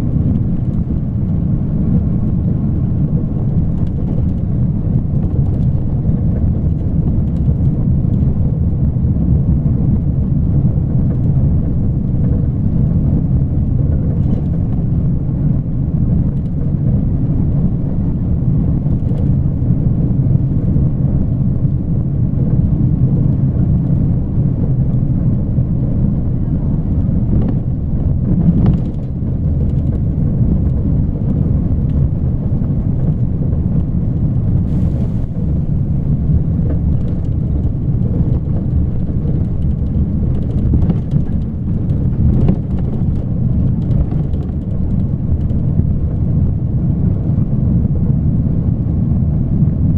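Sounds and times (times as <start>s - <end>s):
vehicle rumble: 0.0s - 49.9s
wind buffeting microphone: 0.0s - 49.9s.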